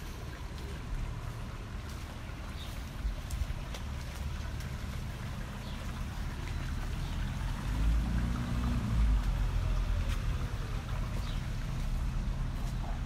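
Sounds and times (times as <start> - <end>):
distant vehicle passing: 0.0 - 13.0
low outdoor rumble: 0.0 - 13.0.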